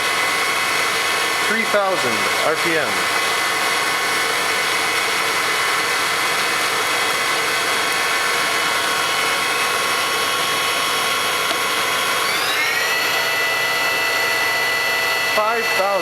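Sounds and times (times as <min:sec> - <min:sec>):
mill spindle hum with whine: 0:00.0 - 0:16.0.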